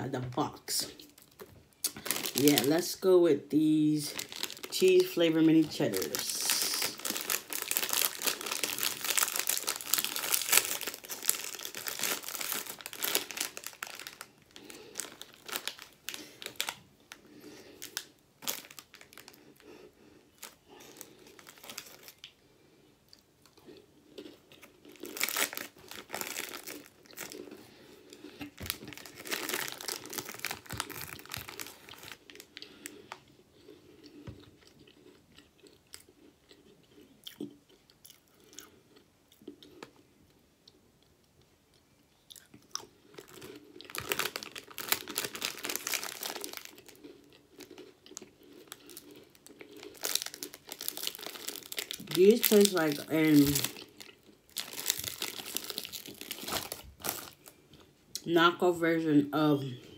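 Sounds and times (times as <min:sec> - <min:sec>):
plastic snack bag crinkling: 0:00.0 - 0:22.5, 0:23.1 - 0:40.0, 0:42.3 - 0:58.3.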